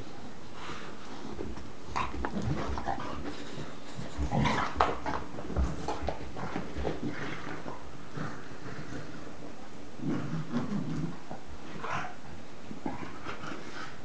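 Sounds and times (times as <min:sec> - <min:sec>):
dogs play-fighting noises: 0:00.0 - 0:14.0.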